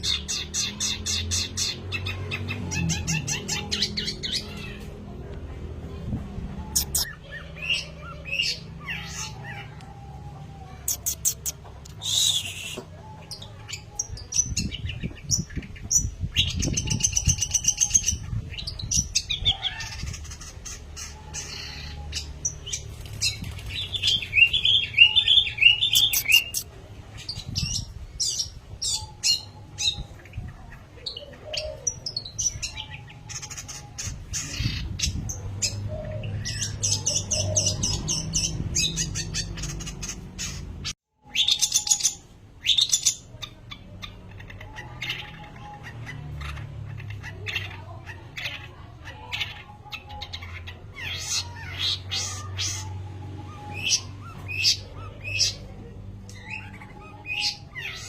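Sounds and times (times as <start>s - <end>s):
bird chirps and trills: 0.0s - 5.3s, 6.0s - 58.0s.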